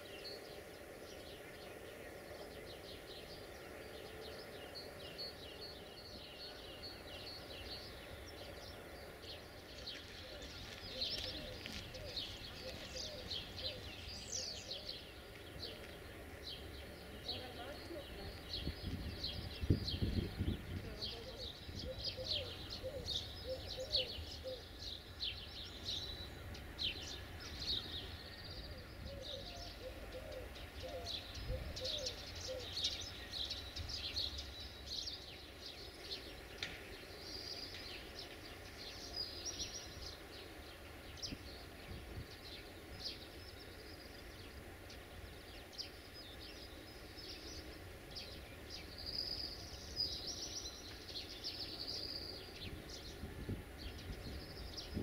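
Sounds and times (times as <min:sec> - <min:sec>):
lower repeated bird calls: 0:00.0 - 0:55.0
small birds chirping: 0:00.0 - 0:55.0.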